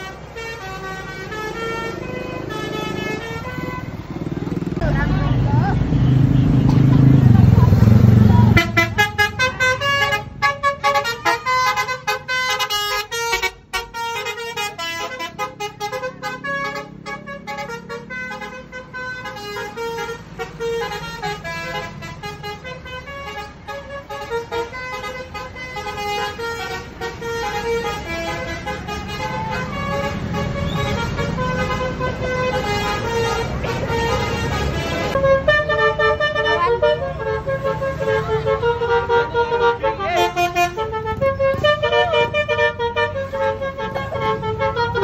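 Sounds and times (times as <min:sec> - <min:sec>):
bus horn playing tune: 0:00.0 - 0:04.2, 0:08.2 - 0:45.0
bus engine running: 0:00.0 - 0:45.0.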